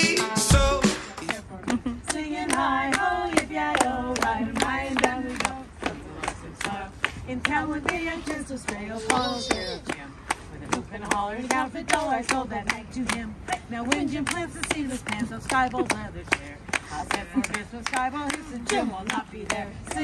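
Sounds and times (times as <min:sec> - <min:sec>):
group of people singing: 0:00.0 - 0:01.4, 0:02.0 - 0:20.0
hands clapping in rhythm: 0:00.8 - 0:20.0.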